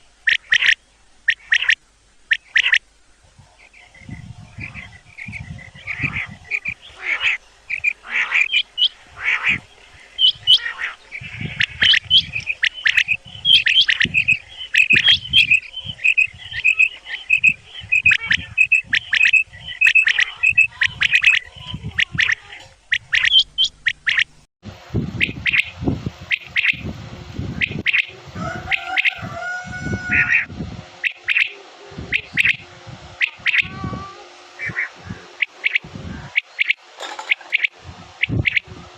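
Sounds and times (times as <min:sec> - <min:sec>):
game birds calling: 0:00.0 - 0:24.4, 0:25.2 - 0:26.9, 0:27.5 - 0:38.8.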